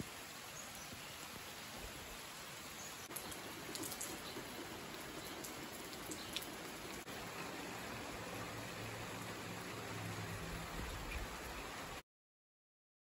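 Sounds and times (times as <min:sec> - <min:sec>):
steady rain falling: 0:00.0 - 0:12.0
water dripping off roof edge: 0:00.0 - 0:12.0.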